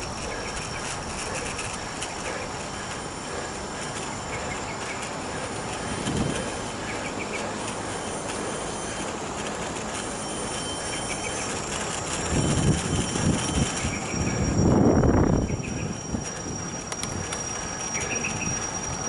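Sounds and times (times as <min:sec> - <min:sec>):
bicycle tyre noise: 0:00.0 - 0:19.0.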